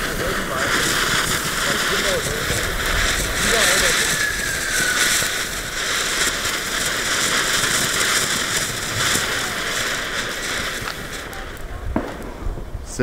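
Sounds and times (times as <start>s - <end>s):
firework fountain hissing and crackling: 0.0s - 13.0s.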